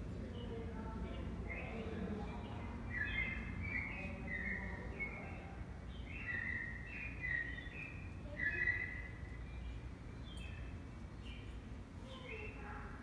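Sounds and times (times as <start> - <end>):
steady low hum: 0.0 - 13.0
bird chirping: 0.3 - 13.0.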